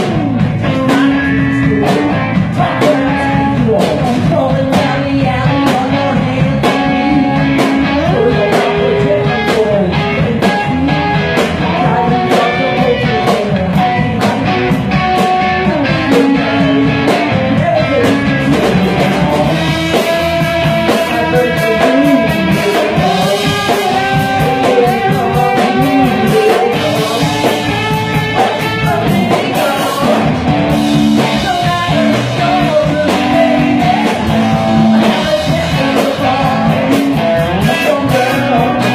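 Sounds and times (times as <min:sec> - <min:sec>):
drum kit: 0:00.0 - 0:38.9
electric guitars: 0:00.0 - 0:38.9
man singing: 0:00.0 - 0:38.9.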